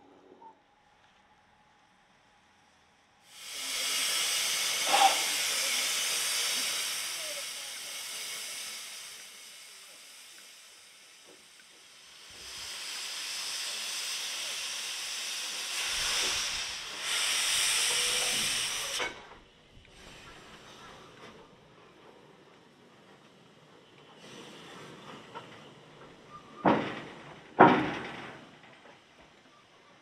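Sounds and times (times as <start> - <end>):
steam locomotive hissing: 3.2 - 29.9.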